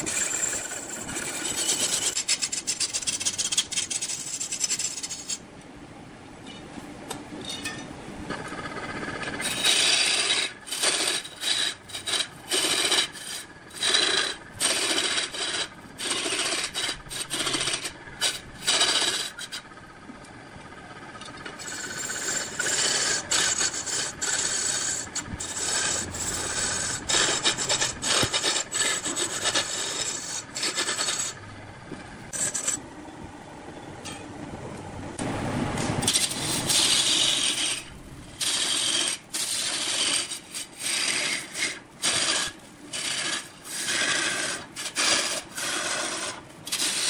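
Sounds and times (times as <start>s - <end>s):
lathe tool scraping wood: 0.0s - 5.4s, 8.5s - 19.7s, 21.5s - 31.4s, 32.3s - 32.8s, 36.0s - 47.0s.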